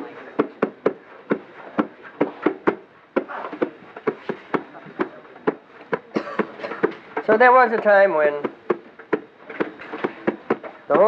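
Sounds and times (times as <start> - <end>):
drum beaten in quick rhythm: 0.3 - 11.0.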